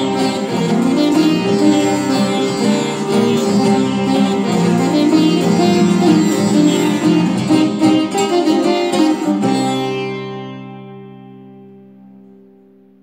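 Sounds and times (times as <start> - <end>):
sitar and guitar duet: 0.0 - 13.0.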